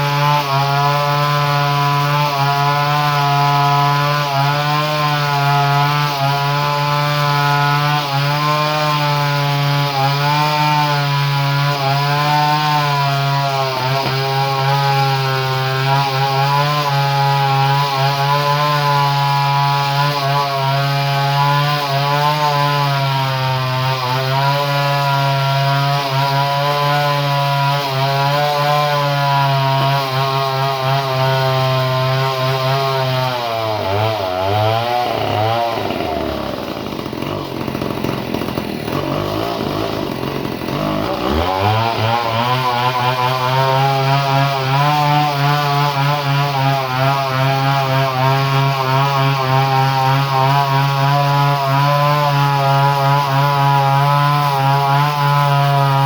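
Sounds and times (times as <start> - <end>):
chainsaw engine running: 0.0 - 56.0.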